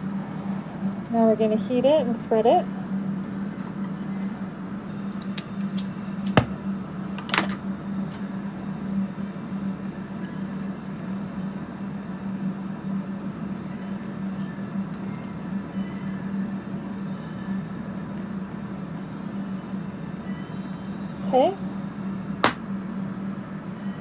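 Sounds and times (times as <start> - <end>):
fume extraction fans droning: 0.0 - 24.0
low hum: 0.0 - 24.0.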